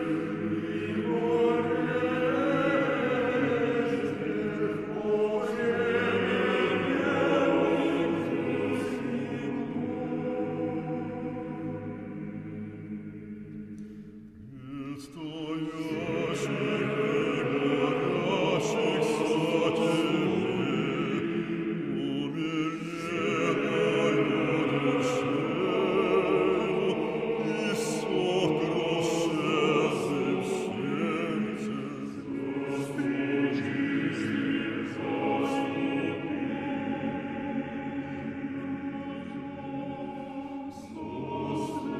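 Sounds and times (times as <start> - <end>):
choir singing: 0.0 - 41.9.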